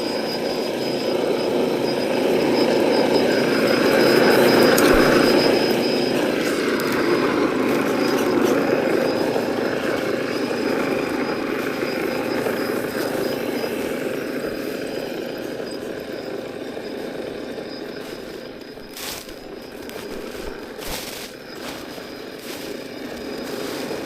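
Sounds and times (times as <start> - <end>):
thin high whine: 0.0 - 24.0.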